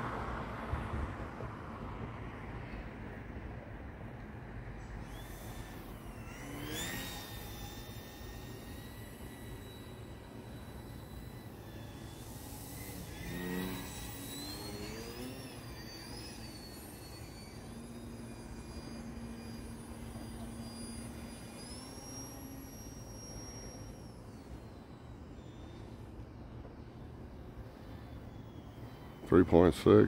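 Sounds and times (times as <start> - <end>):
model plane motor whining: 4.2 - 30.0.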